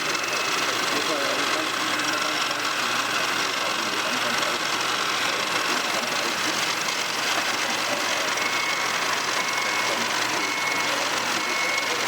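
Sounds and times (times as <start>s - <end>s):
model motors whirring: 0.0s - 12.0s.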